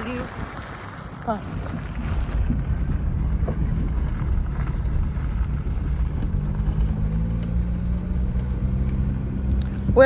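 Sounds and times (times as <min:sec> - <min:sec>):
car engine and road rumble: 0:00.0 - 0:10.0
wind on microphone: 0:00.0 - 0:10.0.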